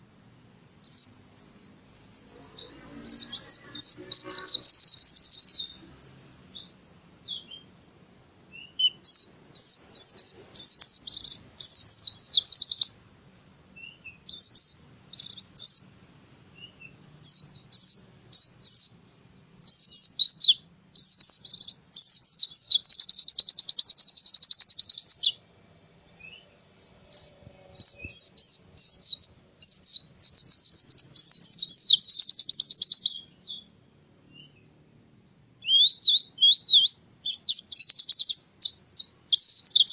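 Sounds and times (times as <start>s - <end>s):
bird chirping and trilling: 0.5s - 39.9s.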